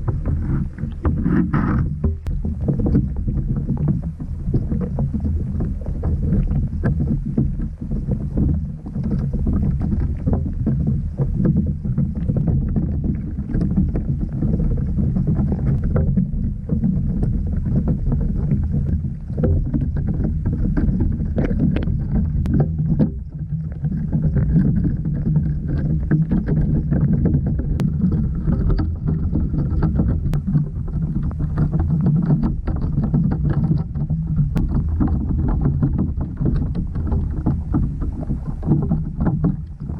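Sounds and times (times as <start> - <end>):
underwater clicks and crackles: 0.0 - 39.9
underwater low rumble: 0.0 - 39.9.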